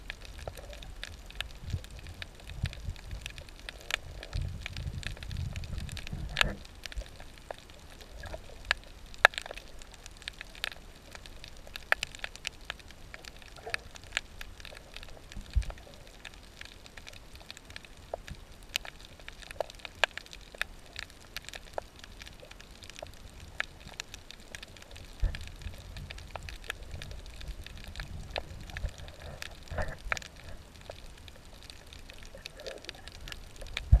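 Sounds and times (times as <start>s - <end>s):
low rumble of moving water: 0.0s - 34.0s
snapping shrimp clicks and crackles: 0.0s - 34.0s.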